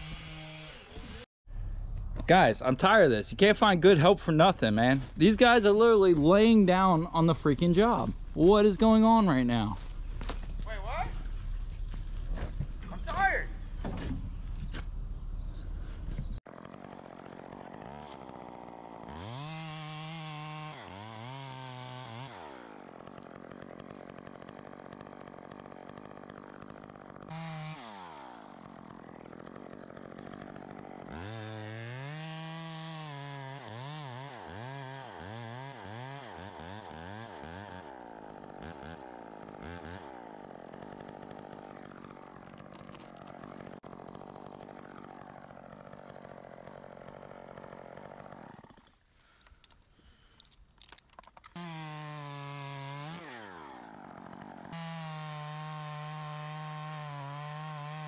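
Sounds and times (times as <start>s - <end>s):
chainsaw revving: 0.0s - 1.3s, 3.6s - 14.8s, 15.8s - 50.4s, 51.5s - 58.0s.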